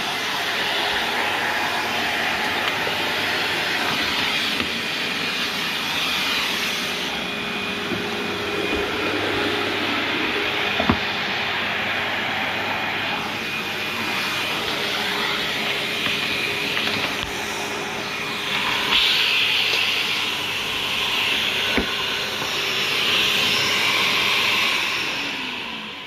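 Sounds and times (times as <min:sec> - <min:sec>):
vacuum cleaner hissing: 0:00.0 - 0:26.0.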